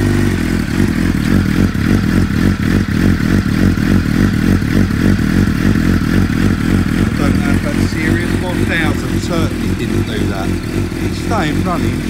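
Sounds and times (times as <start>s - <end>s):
motorcycle engine idling unevenly: 0.0s - 12.0s.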